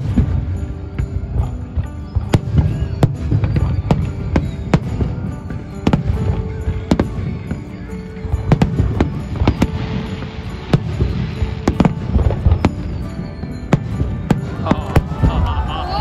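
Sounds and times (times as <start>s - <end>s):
fireworks bursting: 0.0s - 16.0s
fireworks crackling: 0.0s - 16.0s
music with long held notes: 0.0s - 16.0s.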